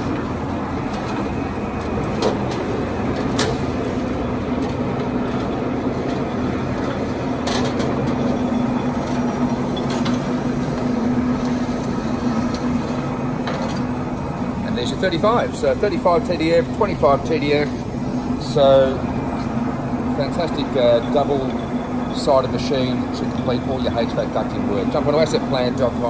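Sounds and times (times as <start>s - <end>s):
rollforming machine humming: 0.0s - 26.0s.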